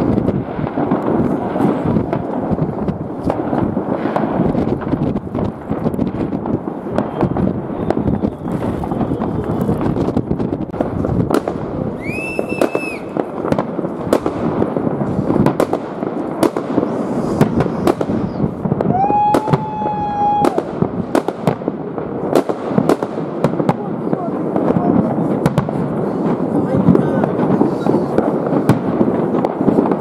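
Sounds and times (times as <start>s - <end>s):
distant fireworks bursts and crackle: 0.0s - 30.0s
sharp firework bangs: 0.0s - 30.0s
whistling fireworks: 0.0s - 30.0s.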